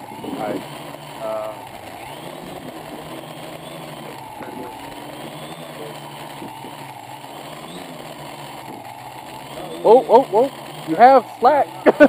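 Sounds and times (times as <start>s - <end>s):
quadcopter propellers humming: 0.0s - 12.0s.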